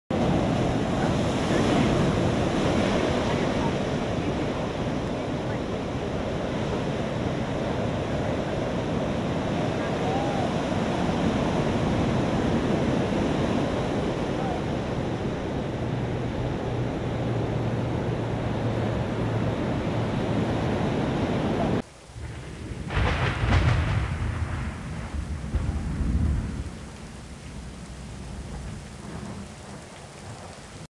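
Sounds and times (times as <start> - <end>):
heavy rain hissing: 0.1 - 20.1, 21.1 - 30.9
ocean surf: 0.1 - 30.6
wind on microphone: 0.1 - 30.8
thunder rumble: 0.1 - 30.9.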